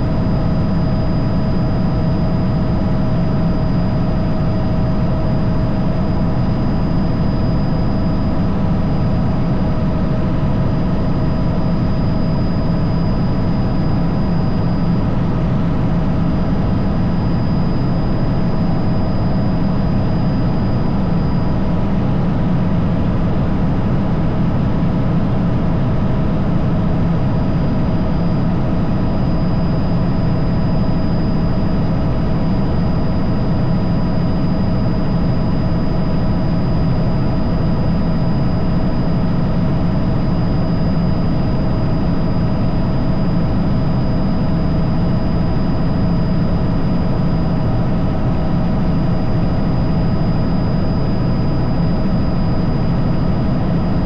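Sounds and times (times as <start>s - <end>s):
helicopter turbine and rotor drone: 0.0s - 54.0s.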